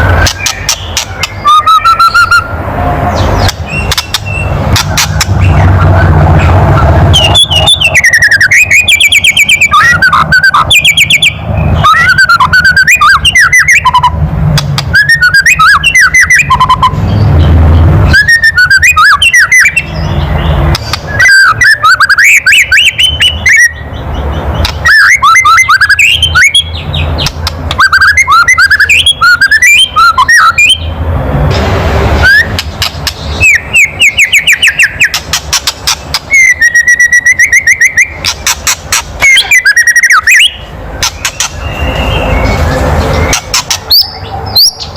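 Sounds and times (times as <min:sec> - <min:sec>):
bird harsh rattle calls: 0:00.0 - 0:14.0, 0:18.2 - 0:30.8, 0:32.2 - 0:44.9
bird whistled notes: 0:00.1 - 0:02.6, 0:03.2 - 0:14.2, 0:14.9 - 0:17.2, 0:18.1 - 0:24.0, 0:24.6 - 0:30.9, 0:32.2 - 0:44.9.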